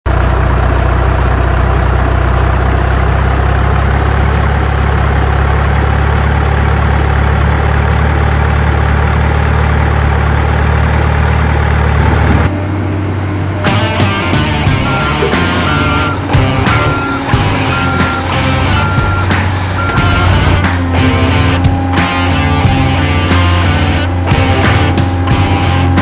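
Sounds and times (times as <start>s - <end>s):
heavy engine idling: 0.1s - 26.0s.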